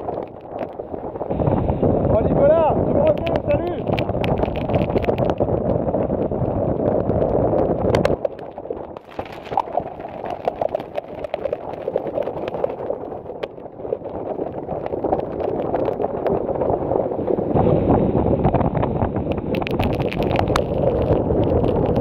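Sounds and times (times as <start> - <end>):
heavy rain spattering: 0.0 - 1.3, 2.1 - 17.1, 19.3 - 22.0
wind buffeting microphone: 0.0 - 22.0.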